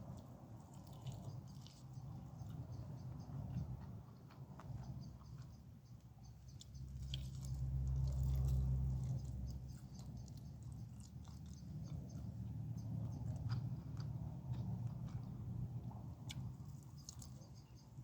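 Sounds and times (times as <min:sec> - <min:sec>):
close chewing: 0:00.0 - 0:18.0.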